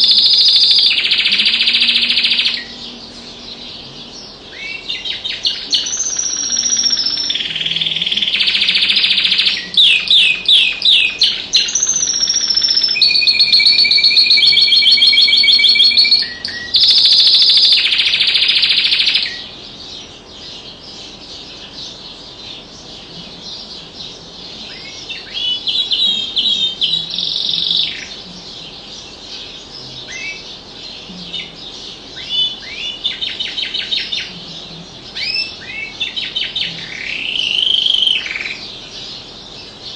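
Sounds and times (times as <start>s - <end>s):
canary chirps: 0.0s - 39.9s
canary singing trills: 0.0s - 39.9s.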